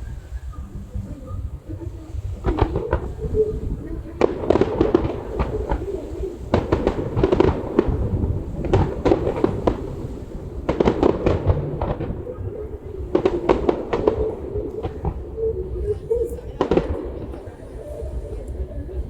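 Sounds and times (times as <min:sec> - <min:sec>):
fireworks bangs and crackles: 0:00.0 - 0:19.0
steady low rumble: 0:00.0 - 0:19.0.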